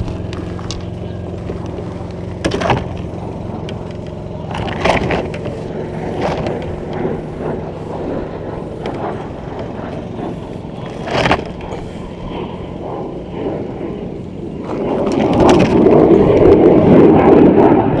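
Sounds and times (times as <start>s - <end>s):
machine engine droning: 0.0s - 18.0s.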